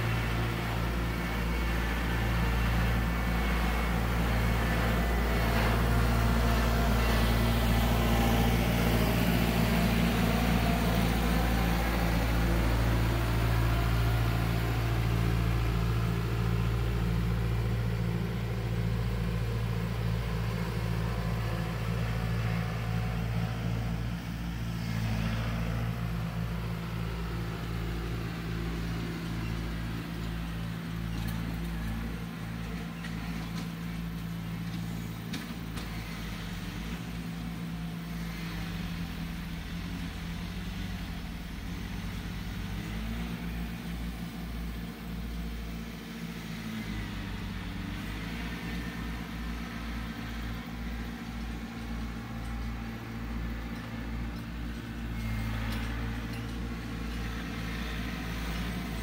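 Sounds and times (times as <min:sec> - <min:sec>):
earth-moving machine engine: 0:00.0 - 0:59.0.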